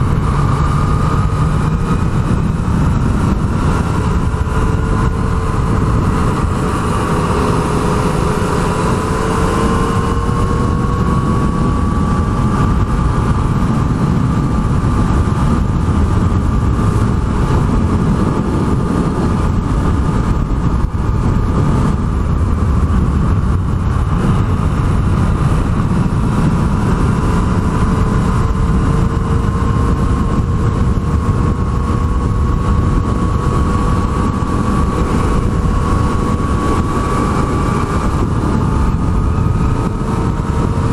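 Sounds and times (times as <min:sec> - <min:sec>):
low rush of noise: 0:00.0 - 0:40.9
motorcycle engine cruising: 0:00.0 - 0:40.9.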